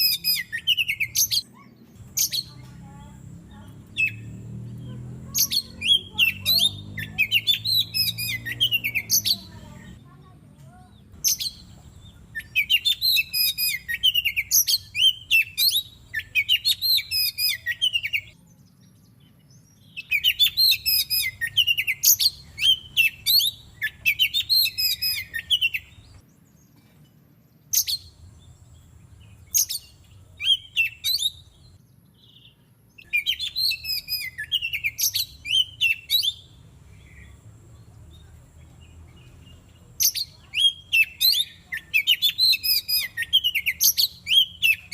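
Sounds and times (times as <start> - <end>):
bird singing whistles and chirps: 0.0 - 2.6, 5.3 - 9.6, 11.2 - 26.6, 29.2 - 37.4, 39.1 - 44.9.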